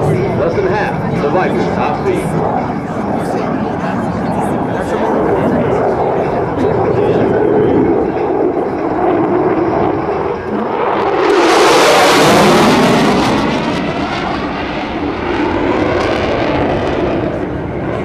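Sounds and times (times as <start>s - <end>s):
jet passing overhead: 0.0s - 18.0s.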